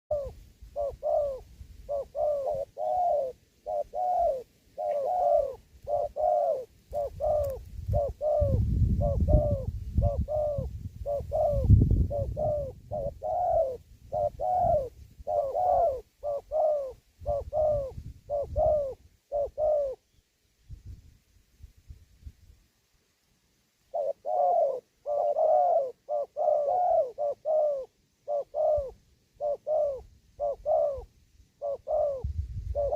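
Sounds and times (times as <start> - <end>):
dove cooing: 0.1 - 20.1, 23.9 - 32.9.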